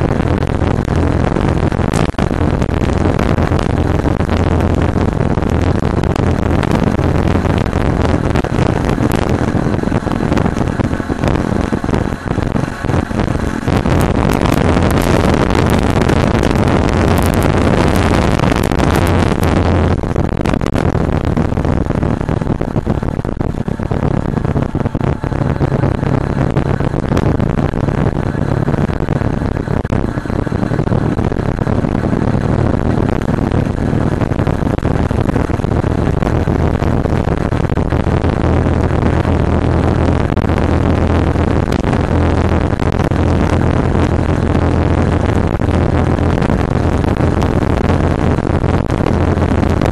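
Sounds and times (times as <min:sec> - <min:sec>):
motorcycle engine running: 0:00.0 - 0:49.9
wind on microphone: 0:00.0 - 0:49.9.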